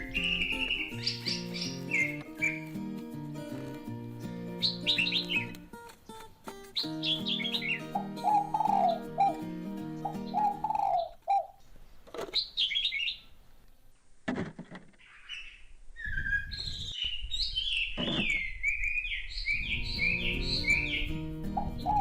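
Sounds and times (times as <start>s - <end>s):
small birds chirping: 0.0s - 2.9s, 4.4s - 13.4s, 15.0s - 22.0s.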